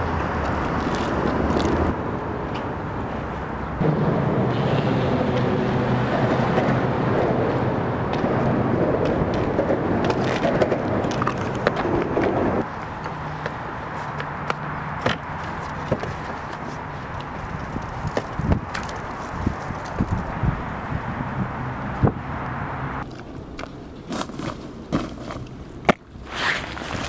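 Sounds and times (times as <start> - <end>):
street traffic noise: 0.0 - 27.0.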